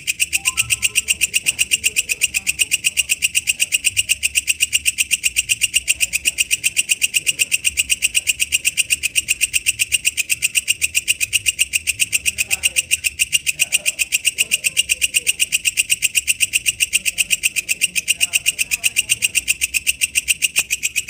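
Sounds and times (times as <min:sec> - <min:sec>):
katydid chirping rapidly: 0:00.0 - 0:21.0.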